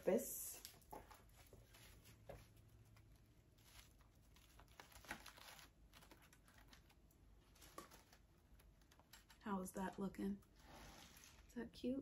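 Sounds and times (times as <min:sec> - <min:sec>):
faint rustling of artificial flowers: 0:00.0 - 0:12.0.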